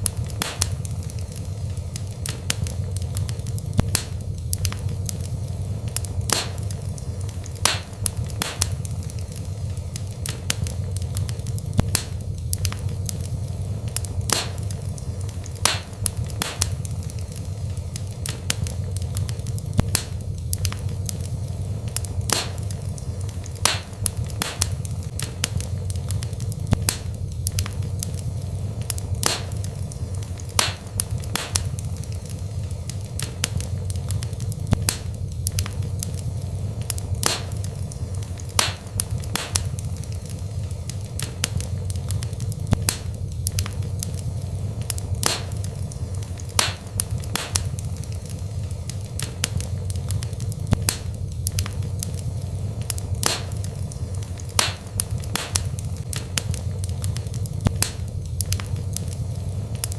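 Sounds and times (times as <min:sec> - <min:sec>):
low rumble: 0:00.0 - 0:59.9
wood fire crackling and popping: 0:00.0 - 0:59.9.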